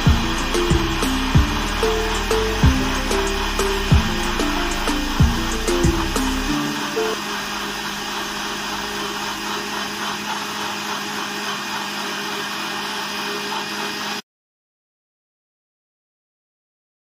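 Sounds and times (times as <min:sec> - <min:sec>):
electric blender running: 0:00.0 - 0:14.2.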